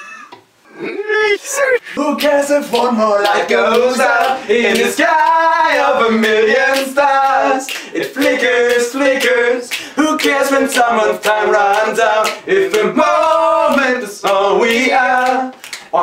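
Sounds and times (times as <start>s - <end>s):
men singing a cappella: 1.8s - 16.0s
hand clicks keeping a beat: 2.2s - 16.0s.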